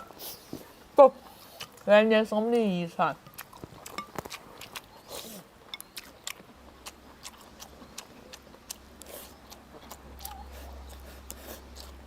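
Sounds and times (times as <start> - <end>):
chewing: 0.0 - 1.9, 2.6 - 12.0.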